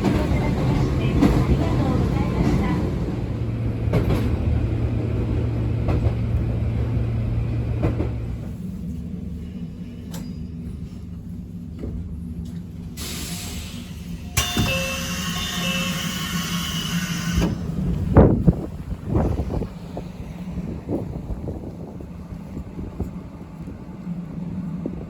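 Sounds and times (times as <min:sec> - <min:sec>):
train cabin hum and rumble: 0:00.0 - 0:25.0.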